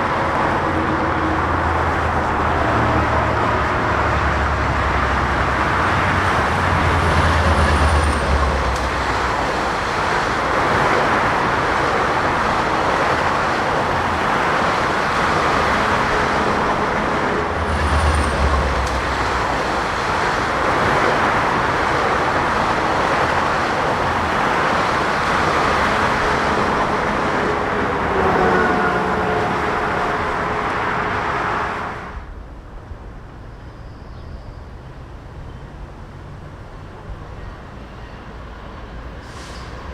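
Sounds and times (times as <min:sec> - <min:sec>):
train wheels rushing on rails: 0:00.0 - 0:32.3, 0:36.3 - 0:39.9
deep train rumbles: 0:00.0 - 0:39.9.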